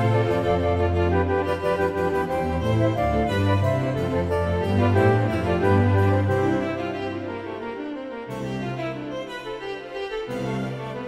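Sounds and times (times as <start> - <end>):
instrumental music of held notes: 0.0 - 11.0.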